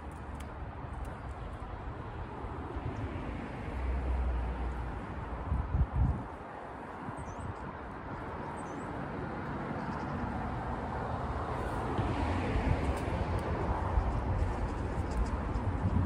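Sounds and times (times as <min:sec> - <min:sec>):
distant road traffic: 0:00.0 - 0:16.0
wind gusting on microphone: 0:00.0 - 0:16.0.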